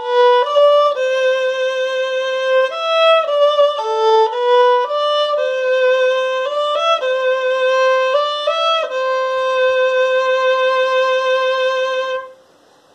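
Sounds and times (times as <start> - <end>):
violin slow melody: 0.0 - 12.6.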